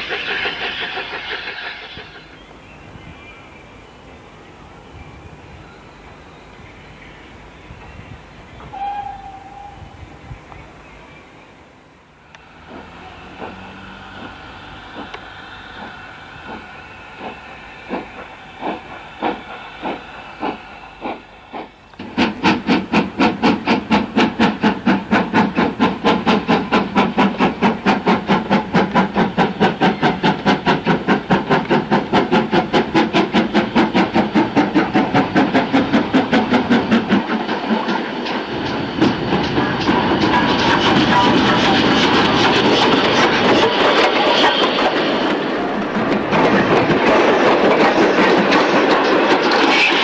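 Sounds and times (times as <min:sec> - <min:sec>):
steam locomotive chuffing: 0:00.0 - 0:02.6, 0:12.2 - 0:50.0.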